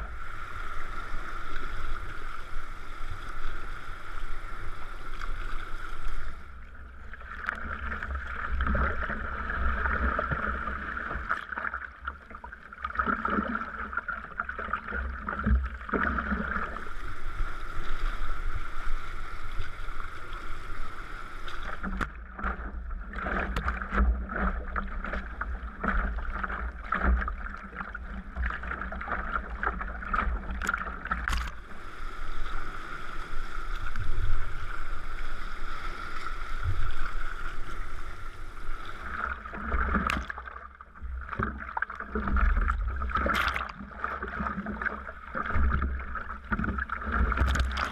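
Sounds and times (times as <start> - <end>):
paddle strokes: 0.0 - 47.9
water splashing along hull: 0.0 - 47.9.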